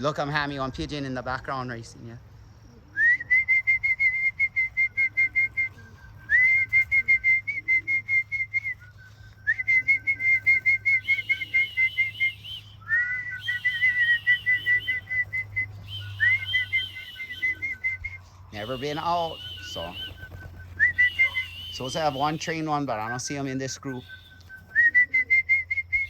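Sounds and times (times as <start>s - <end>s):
whistled pigeon calls: 2.7s - 26.0s
higher wavering whistle: 3.0s - 26.0s.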